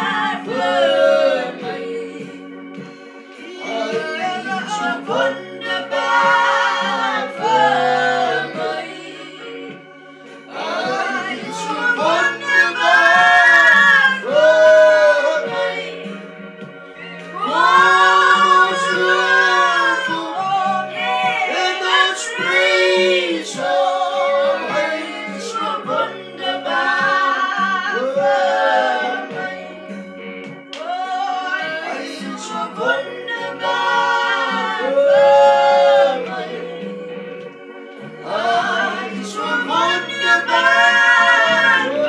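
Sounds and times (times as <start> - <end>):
family singing together: 0.0 - 16.2, 17.0 - 42.0.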